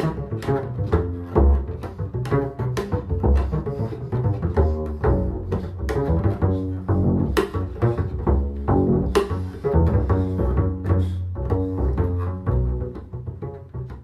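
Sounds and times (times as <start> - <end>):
instrumental film music: 0.0 - 14.0.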